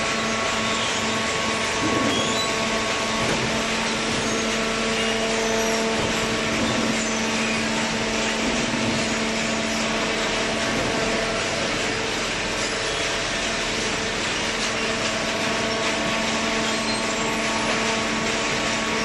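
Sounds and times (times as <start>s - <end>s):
baler machine hum: 0.0s - 19.0s.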